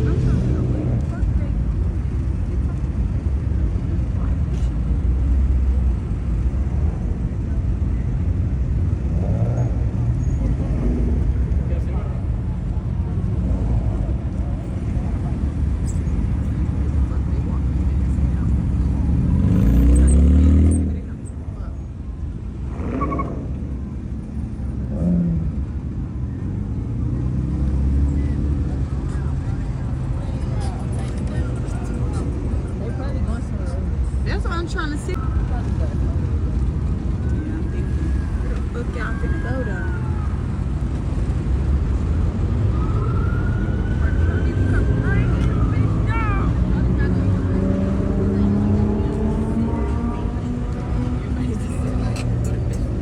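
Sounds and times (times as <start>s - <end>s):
car engines rumbling: 0.0s - 53.0s.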